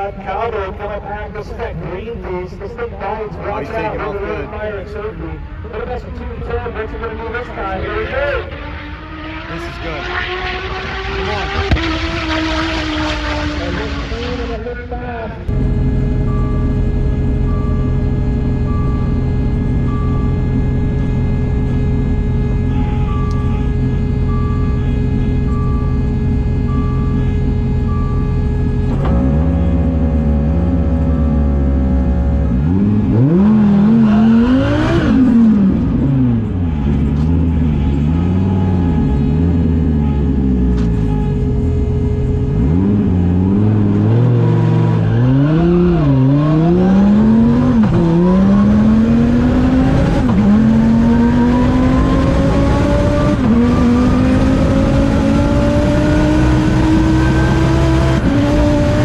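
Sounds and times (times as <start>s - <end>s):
car engine revving: 3.8s - 59.0s.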